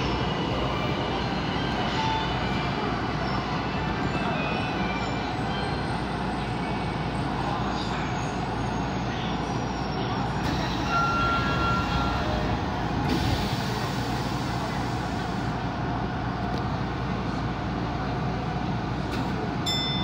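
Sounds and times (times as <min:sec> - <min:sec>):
subway train running: 0:00.0 - 0:20.0.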